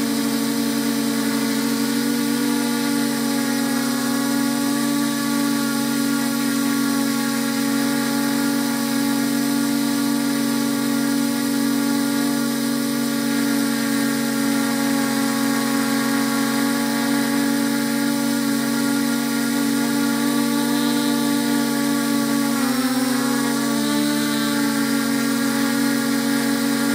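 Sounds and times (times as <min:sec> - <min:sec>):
drone motors whining: 0:00.0 - 0:26.9.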